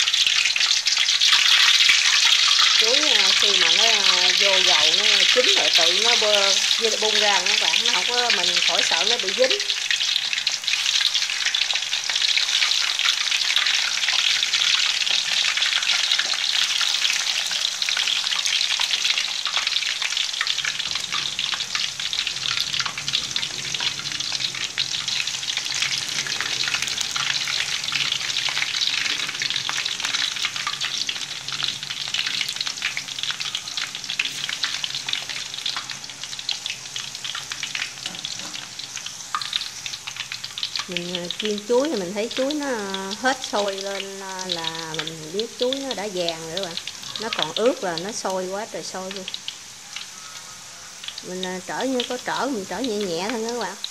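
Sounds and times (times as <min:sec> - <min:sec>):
banana slices frying in oil: 0:00.0 - 0:53.9.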